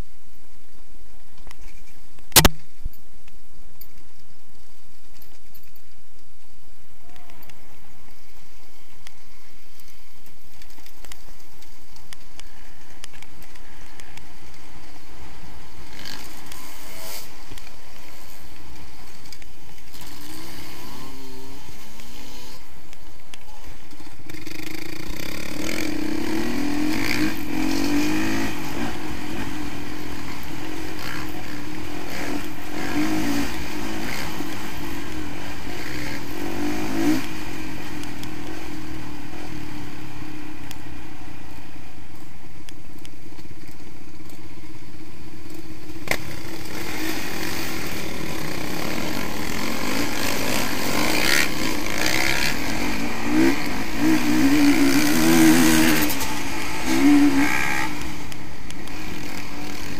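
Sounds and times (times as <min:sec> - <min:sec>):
motorcycle engine running: 0:02.3 - 0:59.9.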